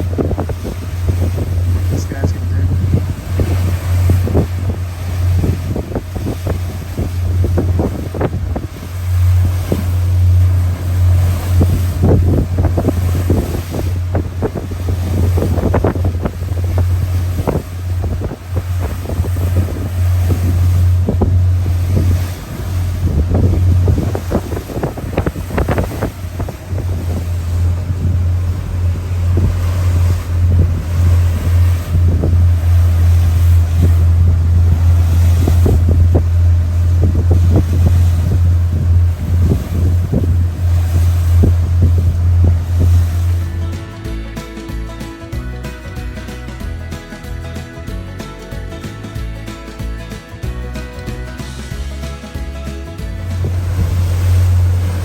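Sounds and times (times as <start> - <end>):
wind buffeting microphone: 0.0 - 44.0, 53.0 - 55.0
diesel engines droning: 0.0 - 55.0
water rushing along hull: 0.0 - 55.0.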